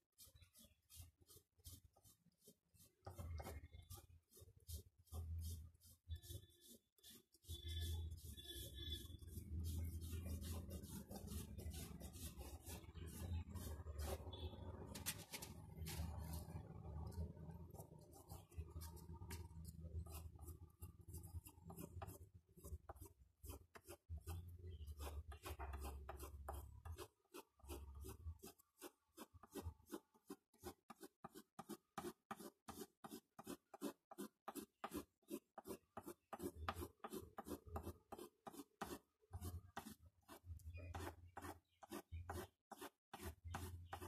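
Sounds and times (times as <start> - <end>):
crayon scratching on paper: 0.1 - 44.0.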